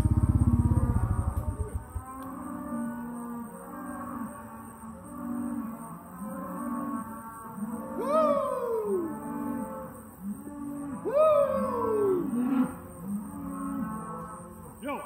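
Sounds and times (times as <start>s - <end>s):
cow mooing: 0.0s - 14.9s.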